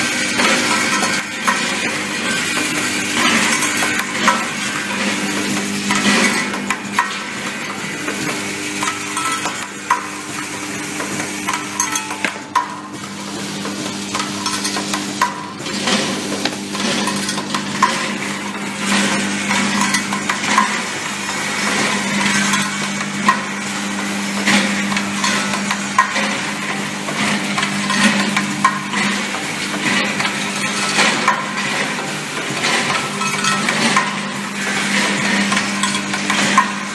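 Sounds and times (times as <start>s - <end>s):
welding machine hum: 0.0s - 36.9s.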